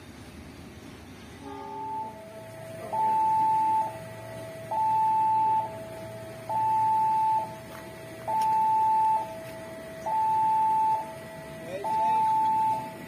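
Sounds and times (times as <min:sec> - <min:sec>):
level crossing two-tone alarm: 0:01.4 - 0:13.0.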